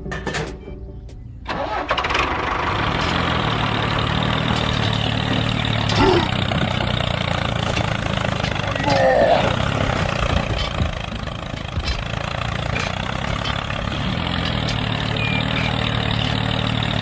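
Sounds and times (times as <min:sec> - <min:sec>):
small engine starting and running: 0:01.5 - 0:08.7, 0:09.4 - 0:17.0.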